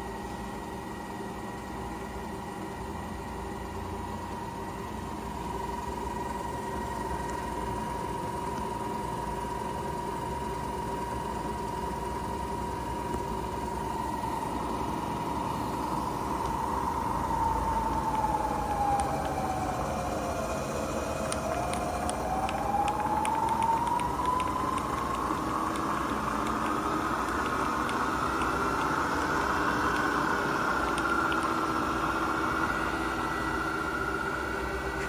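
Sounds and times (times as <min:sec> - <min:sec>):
milling machine whining: 0:01.5 - 0:35.0.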